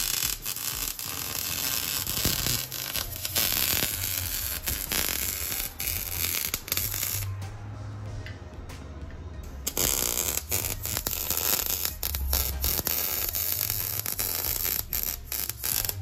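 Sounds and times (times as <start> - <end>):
welder crackling: 0.0 - 7.5, 9.5 - 16.0.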